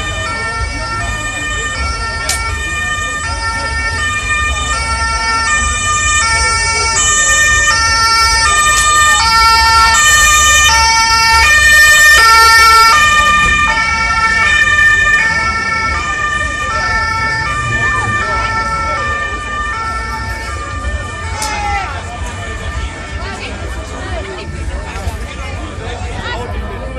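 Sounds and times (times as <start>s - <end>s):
ambulance two-tone siren: 0.0s - 25.3s.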